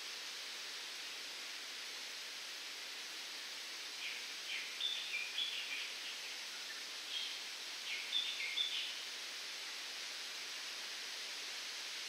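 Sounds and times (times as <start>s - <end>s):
wind rustling palm fronds: 0.0s - 12.0s.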